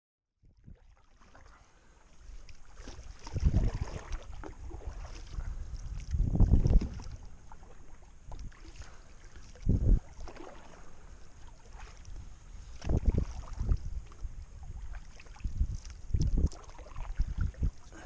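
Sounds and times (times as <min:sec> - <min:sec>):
canoe paddle strokes in water: 0:00.6 - 0:18.0.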